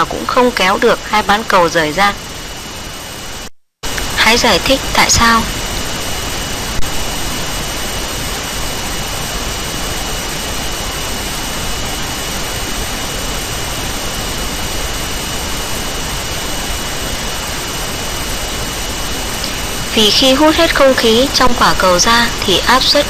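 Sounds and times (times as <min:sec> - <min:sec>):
high-pitched whine: 0:00.0 - 0:23.0
recording noise hiss: 0:00.0 - 0:23.0.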